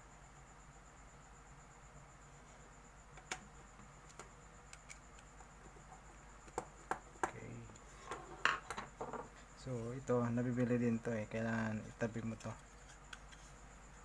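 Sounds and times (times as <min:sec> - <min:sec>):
faint electrical hum with whine: 0:00.0 - 0:14.0.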